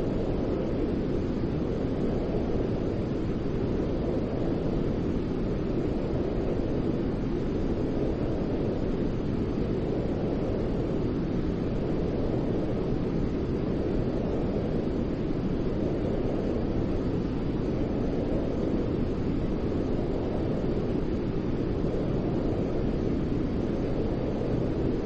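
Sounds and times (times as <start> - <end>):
steady white noise: 0.0 - 25.0.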